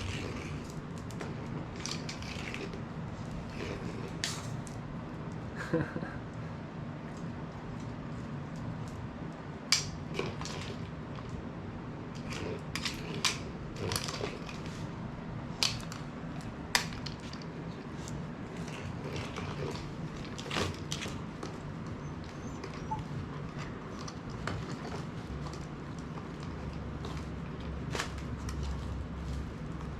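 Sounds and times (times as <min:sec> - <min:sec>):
dog crunching dry kibble: 0:00.0 - 0:05.5, 0:06.9 - 0:29.9
steady low hum: 0:00.0 - 0:29.9.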